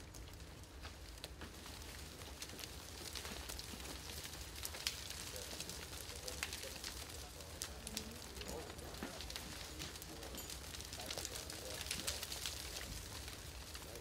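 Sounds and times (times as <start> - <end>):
crackling and rustling in dry brush: 0.0 - 14.0.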